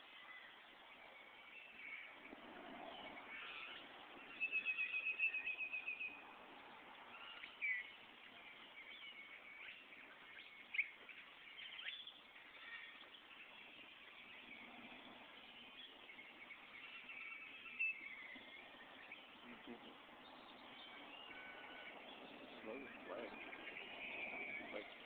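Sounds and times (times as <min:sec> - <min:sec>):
bird chirps: 0:00.0 - 0:25.0
faint outdoor background: 0:00.0 - 0:25.0
small birds trilling: 0:00.0 - 0:25.0.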